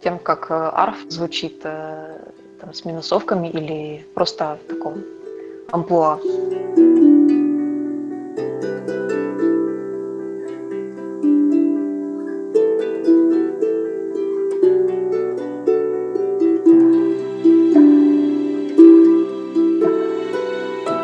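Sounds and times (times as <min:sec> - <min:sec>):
harp melody: 0:00.0 - 0:21.0.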